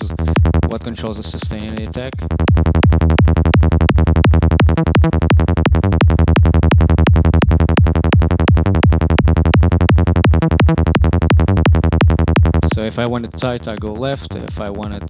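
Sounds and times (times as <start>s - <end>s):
synthesized bass notes repeating: 0.0s - 15.0s.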